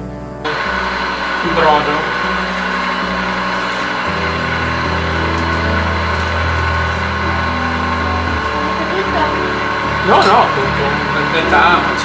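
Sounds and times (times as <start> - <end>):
pasta sheeter motor and rollers: 0.5 - 12.0.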